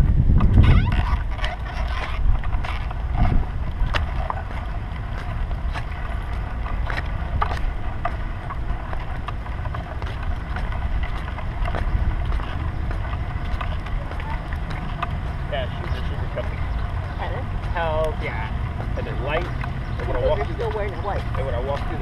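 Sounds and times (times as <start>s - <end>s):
stroller frame rattling: 0.0s - 22.0s
stroller wheels rumbling on asphalt: 0.0s - 22.0s.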